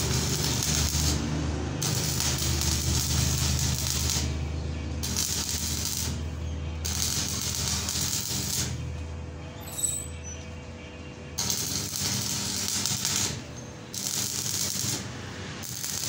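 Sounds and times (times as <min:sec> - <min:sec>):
arc welding crackling: 0:00.0 - 0:09.1, 0:11.4 - 0:16.0.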